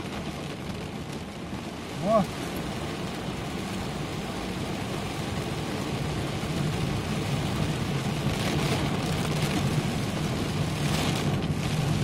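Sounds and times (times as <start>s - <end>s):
car engine hum: 0.0s - 12.0s
rain hissing on car and road: 0.0s - 12.0s.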